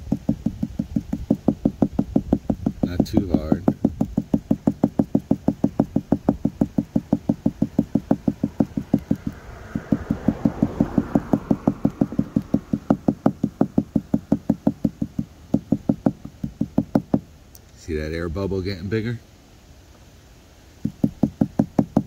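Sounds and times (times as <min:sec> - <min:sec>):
tapping on windshield glass: 0:00.0 - 0:17.3, 0:20.8 - 0:22.0.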